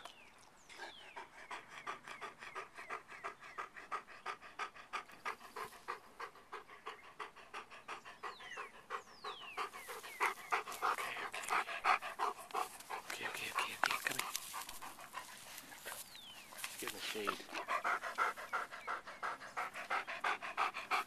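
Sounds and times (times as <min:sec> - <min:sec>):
dog panting rapidly: 0:00.7 - 0:21.0.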